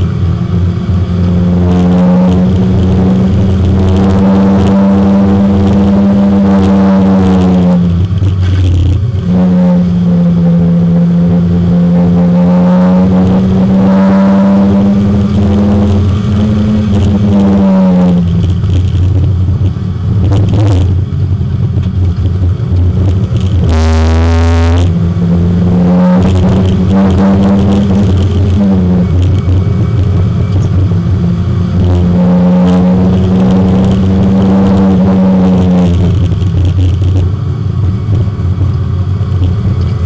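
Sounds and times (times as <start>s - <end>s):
race car engine at high revs: 0.0s - 40.0s.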